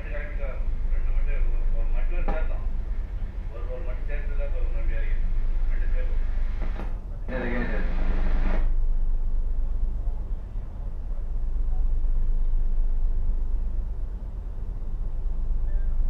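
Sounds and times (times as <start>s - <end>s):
tugboat diesel engines droning: 0.0s - 16.0s.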